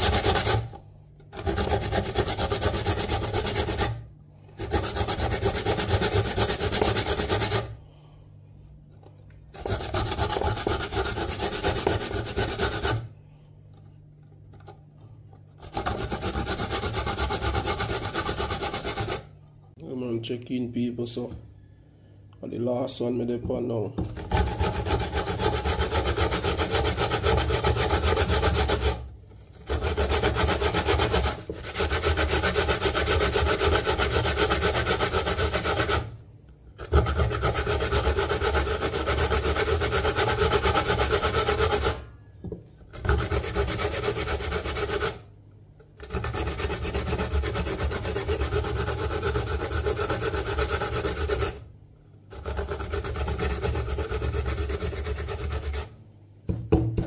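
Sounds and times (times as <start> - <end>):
coconut grated on metal grater: 0.0 - 7.8, 9.4 - 13.2, 14.0 - 19.4, 24.0 - 42.2, 42.8 - 56.0.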